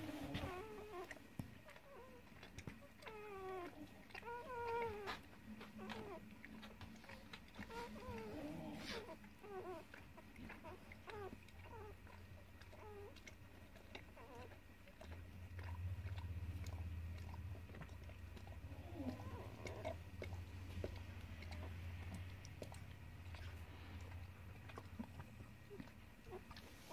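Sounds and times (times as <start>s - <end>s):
dog licking and nibbling: 0.0s - 26.9s.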